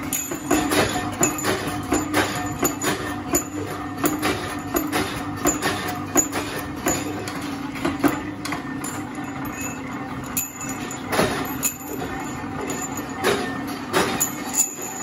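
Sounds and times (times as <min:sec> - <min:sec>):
motor and flywheel hum: 0:00.0 - 0:15.0
sharp metallic clanks: 0:00.0 - 0:15.0.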